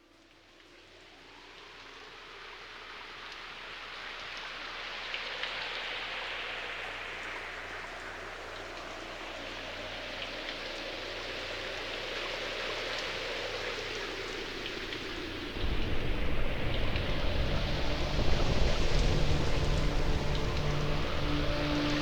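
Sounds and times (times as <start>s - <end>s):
rain-like hiss: 0.0s - 22.0s.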